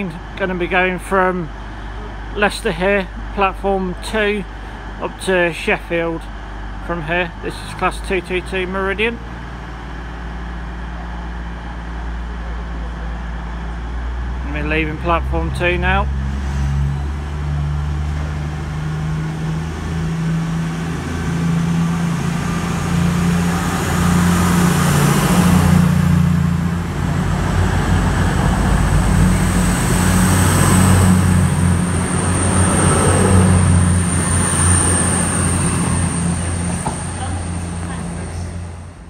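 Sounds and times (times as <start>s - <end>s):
train diesel engine drone: 0.0s - 39.0s.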